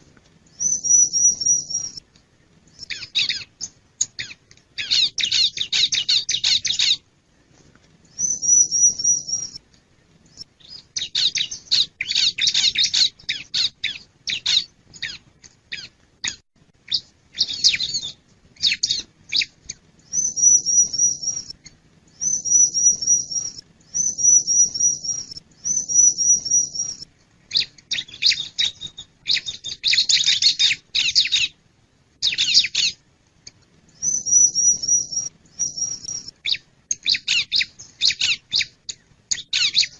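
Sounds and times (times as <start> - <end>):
bird singing rapid chirps: 0.5 - 2.0, 2.7 - 7.0, 8.1 - 9.6, 10.3 - 31.6, 32.2 - 33.0, 33.9 - 39.9.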